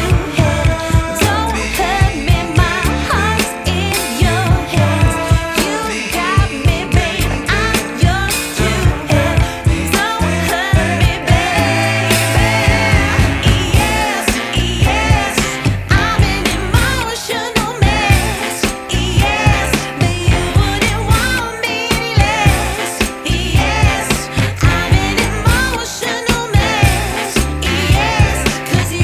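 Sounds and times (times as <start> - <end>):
pop song with singing over beat: 0.0 - 29.0.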